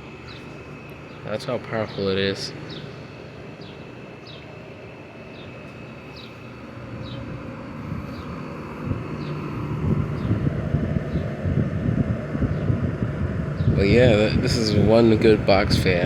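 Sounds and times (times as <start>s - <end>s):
box fan rushing air: 0.0s - 16.0s.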